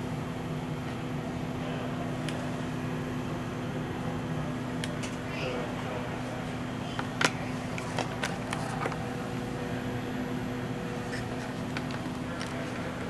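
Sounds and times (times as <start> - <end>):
ventilation hum with droning tone: 0.0 - 13.0.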